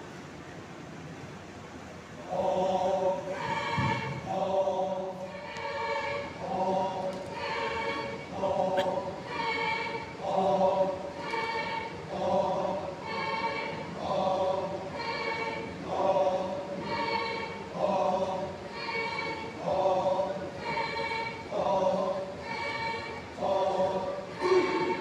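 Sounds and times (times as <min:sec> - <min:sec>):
group of voices chanting: 0:02.3 - 0:25.0.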